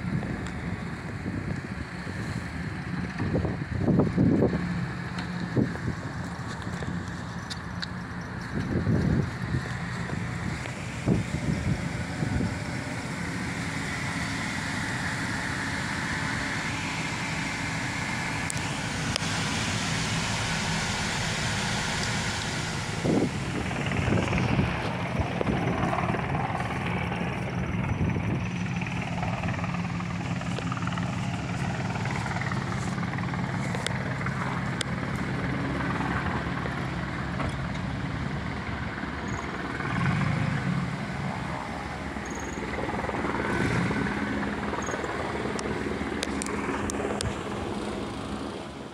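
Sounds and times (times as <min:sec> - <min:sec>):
pickup engine idling: 0:00.0 - 0:48.9.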